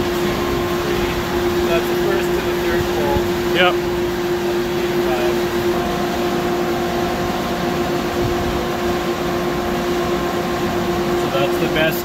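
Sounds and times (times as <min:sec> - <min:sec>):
higher machine tone: 0:00.0 - 0:12.0
machinery humming: 0:00.0 - 0:12.0.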